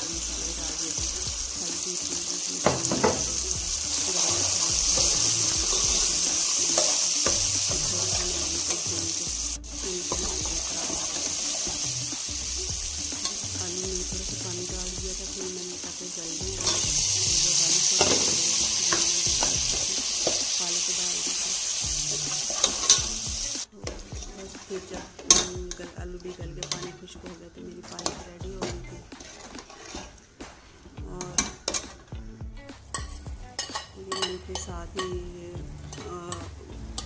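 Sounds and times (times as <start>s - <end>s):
masala sizzling in oil: 0.0s - 37.0s.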